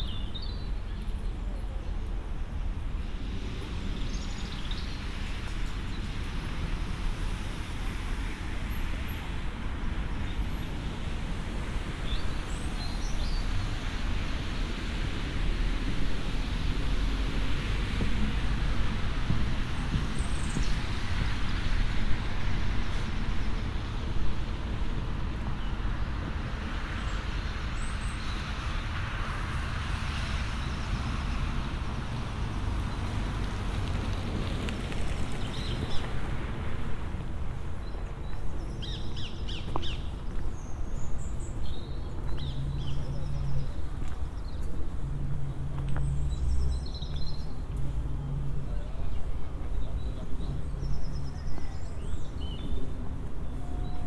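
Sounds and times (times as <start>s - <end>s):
distant road traffic rumble: 0.6s - 54.0s.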